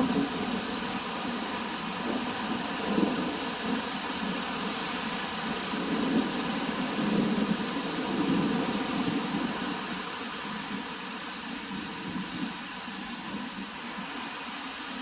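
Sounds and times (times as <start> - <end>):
wind gusting on microphone: 0.0 - 15.0.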